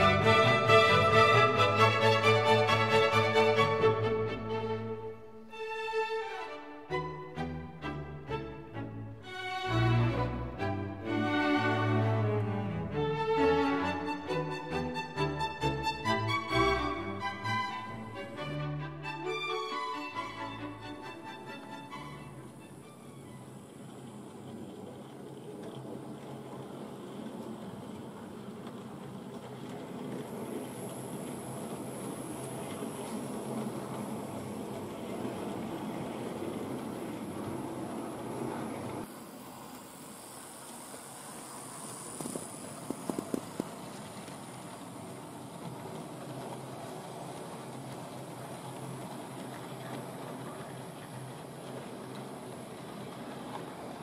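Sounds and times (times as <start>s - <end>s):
model train wheels rumbling on track: 0.0s - 5.7s, 6.3s - 54.0s.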